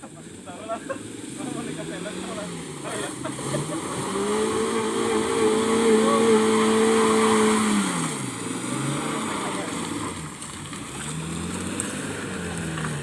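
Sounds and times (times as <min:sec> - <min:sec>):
vehicle engine at high revs: 0:00.0 - 0:13.0.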